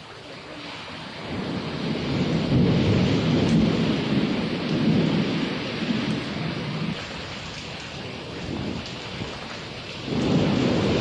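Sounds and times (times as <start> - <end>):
rain falling: 0.0 - 11.0
thunder rolling: 1.1 - 11.0.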